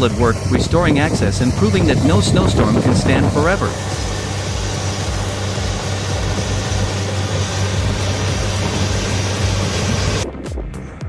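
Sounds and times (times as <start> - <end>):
bulldozer diesel engine running: 0.0 - 10.2
broad hiss: 1.0 - 10.2.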